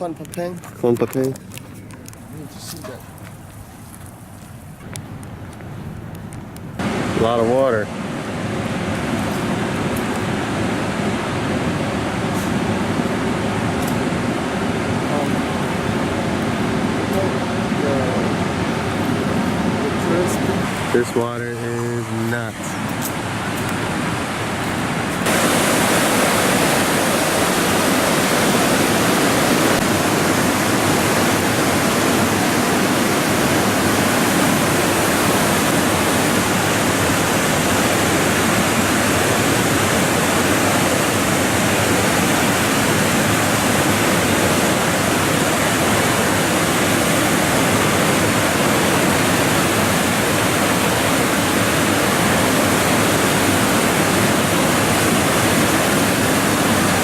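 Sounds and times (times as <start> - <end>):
waterfall rushing: 6.8 - 57.0.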